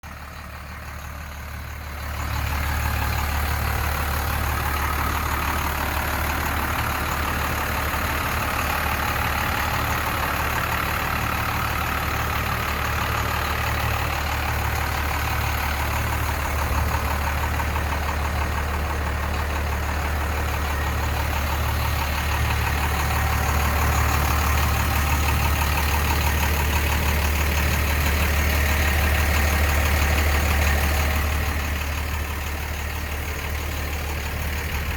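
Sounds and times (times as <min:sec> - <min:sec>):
turbo diesel engine idling: 0:00.0 - 0:34.9.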